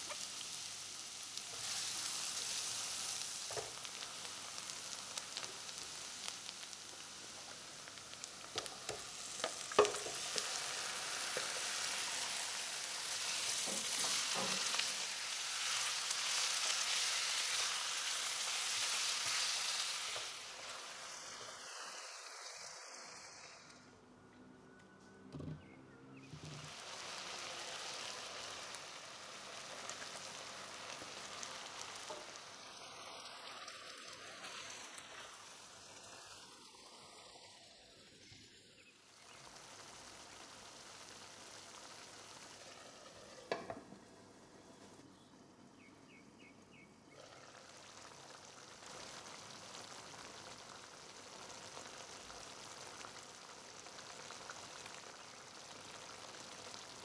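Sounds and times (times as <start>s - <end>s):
chicken sizzling in a pan: 0.0s - 24.0s, 26.3s - 45.0s, 47.1s - 57.0s.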